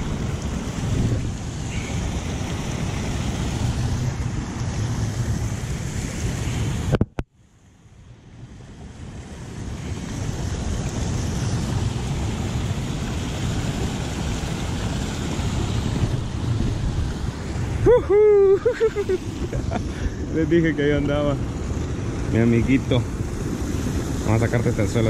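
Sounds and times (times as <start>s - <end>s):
wind buffeting microphone: 0.0s - 7.2s, 8.6s - 25.0s.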